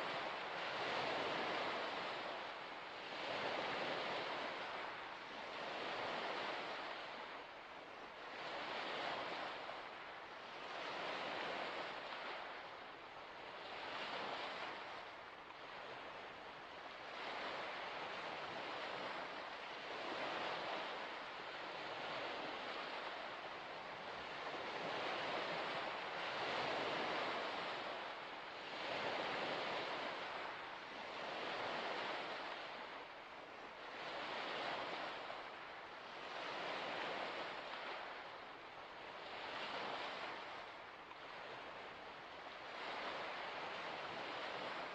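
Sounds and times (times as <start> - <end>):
waves washing onto shore: 0.0 - 44.9.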